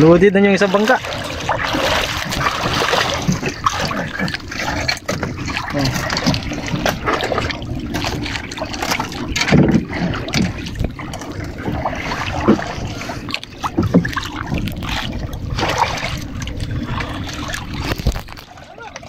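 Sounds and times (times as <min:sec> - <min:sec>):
water sloshing around a boat: 0:00.0 - 0:19.0
wind buffeting microphone: 0:00.0 - 0:19.0.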